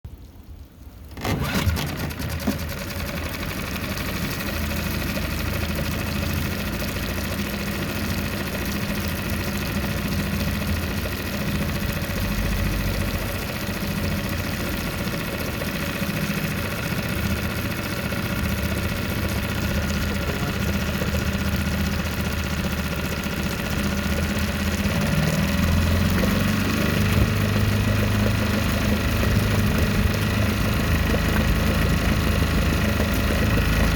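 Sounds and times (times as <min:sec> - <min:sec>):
outboard motor starting and idling: 0:00.1 - 0:33.9.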